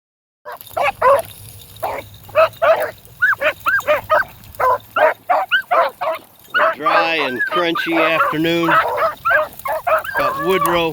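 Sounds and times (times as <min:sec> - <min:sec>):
dogs barking: 0:00.5 - 0:10.9.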